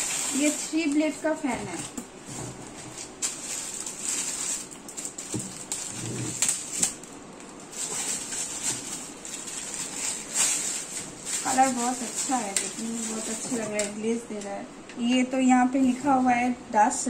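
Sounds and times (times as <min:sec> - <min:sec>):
plastic sleeve crinkling: 0:00.0 - 0:14.4.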